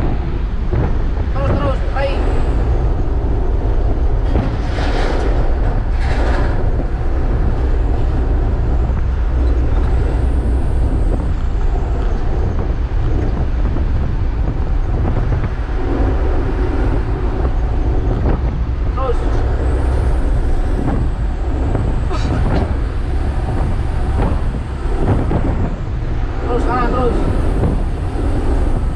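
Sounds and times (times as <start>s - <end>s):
road and tyre noise: 0.0s - 28.9s
truck engine droning: 0.0s - 28.9s.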